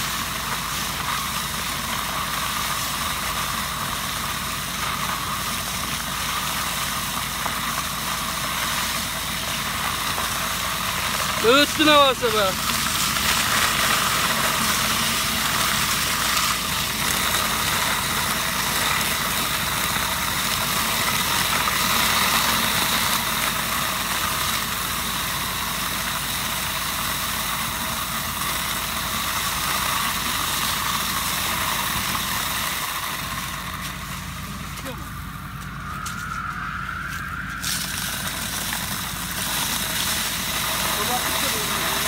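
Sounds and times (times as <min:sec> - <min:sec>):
vacuum harvester engine running: 0:00.0 - 0:42.0.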